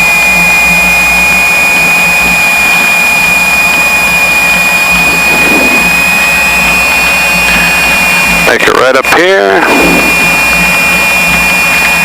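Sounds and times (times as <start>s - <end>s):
aircraft engines droning: 0.0s - 12.0s
high-pitched whine: 0.0s - 12.0s.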